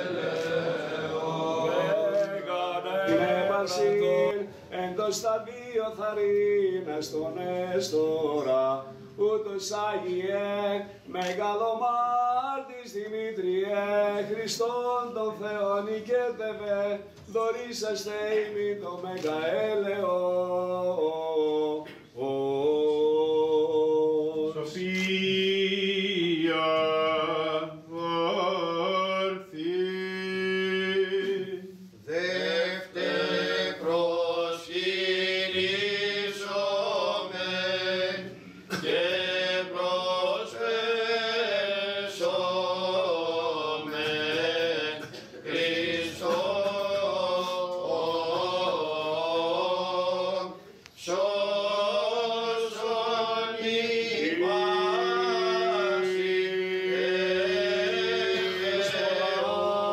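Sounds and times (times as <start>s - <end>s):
men chanting a cappella: 0.0s - 59.9s.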